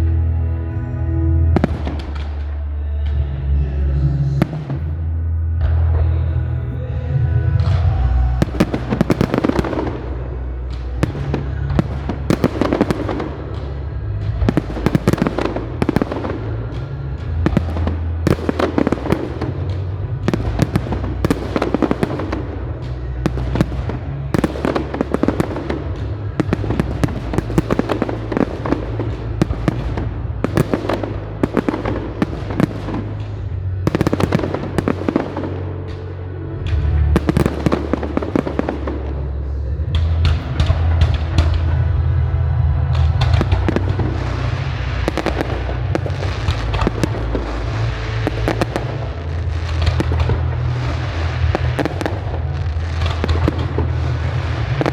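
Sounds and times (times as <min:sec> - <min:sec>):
music with heavy bass: 0:00.0 - 0:54.9
fireworks bangs and crackling: 0:01.6 - 0:03.3, 0:04.3 - 0:05.0, 0:05.6 - 0:54.9.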